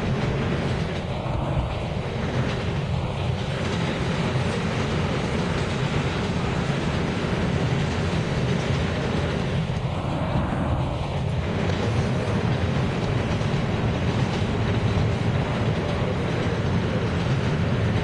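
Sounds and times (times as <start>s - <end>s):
subway train running: 0.0s - 18.0s.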